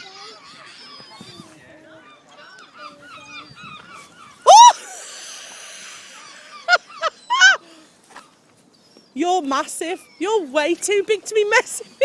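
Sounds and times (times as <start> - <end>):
seagulls calling: 0.0 - 12.0.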